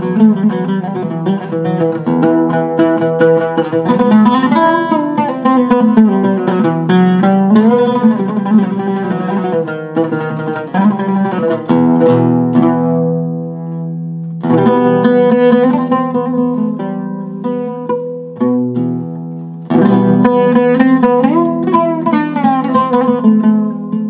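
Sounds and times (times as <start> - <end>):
oud plucked notes: 0.0 - 24.0.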